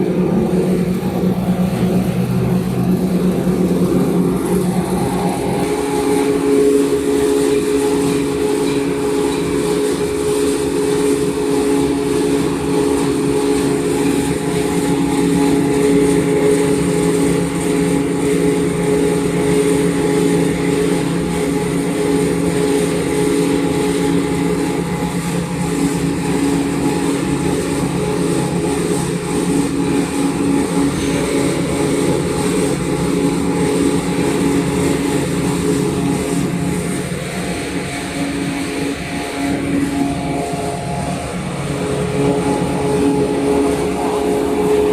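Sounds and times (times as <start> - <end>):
constant machine tones: 0.0 - 44.9
machinery motor hum: 0.0 - 44.9.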